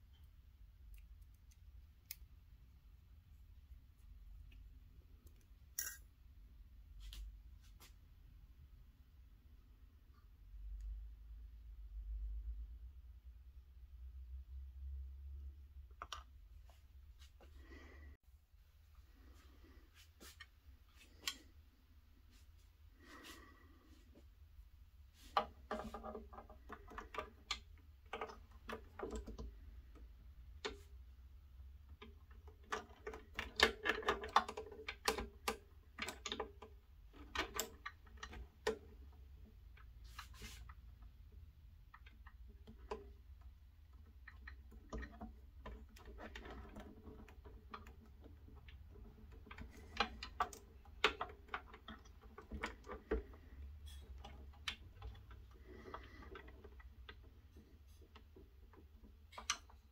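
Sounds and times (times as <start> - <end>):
light clicks and taps of fittings: 0.0 - 6.1, 9.7 - 13.0, 15.2 - 17.8, 19.3 - 21.7, 25.2 - 59.9.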